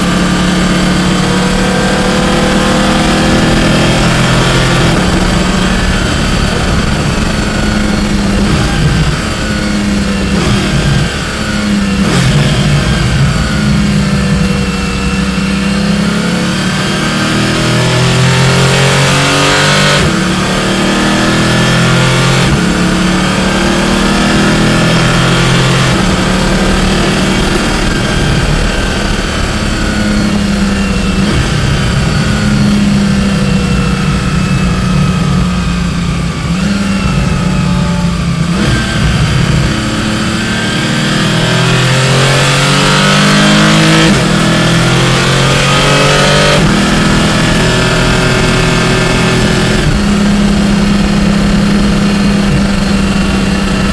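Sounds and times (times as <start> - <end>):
racing car engine revving: 0.0 - 53.9.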